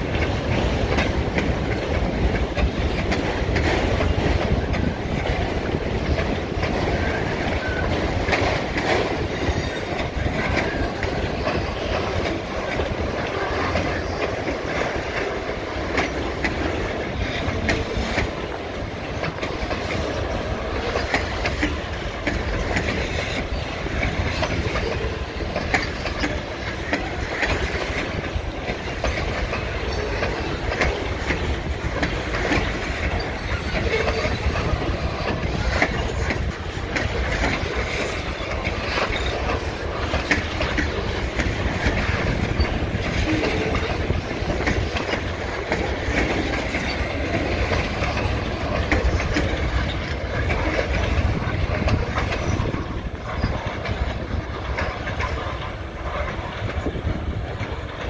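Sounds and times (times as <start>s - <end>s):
steel wheels rumbling on rail: 0.0s - 58.0s
wheels clacking over rail joints: 0.0s - 58.0s.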